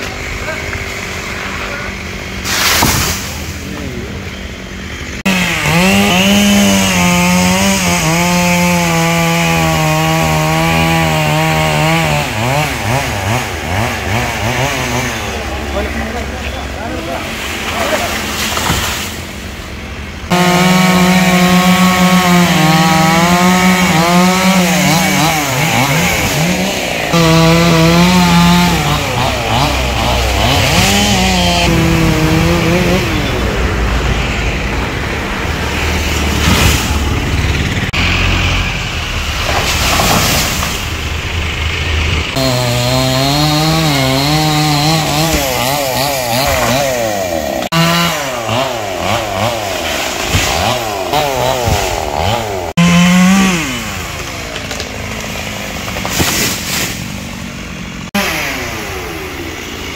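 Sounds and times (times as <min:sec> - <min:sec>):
chainsaw revving: 0:05.0 - 0:16.2, 0:20.3 - 0:34.4, 0:35.4 - 0:57.2, 0:57.9 - 0:59.9.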